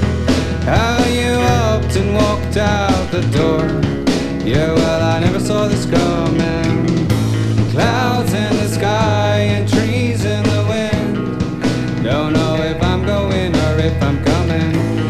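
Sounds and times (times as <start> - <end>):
drum kit with cymbal hits: 0.0 - 15.0
electric guitar: 0.0 - 15.0
low bass: 0.0 - 15.0
men singing: 0.4 - 15.0.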